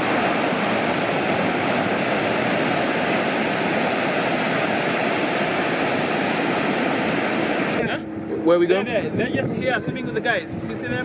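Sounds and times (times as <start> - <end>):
sea water rushing: 0.0 - 9.2
wind: 0.0 - 11.0.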